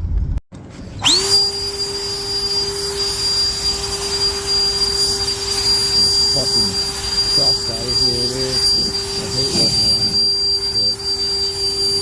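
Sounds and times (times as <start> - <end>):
machine motor whine: 0.6 - 12.0
hiss: 1.6 - 12.0.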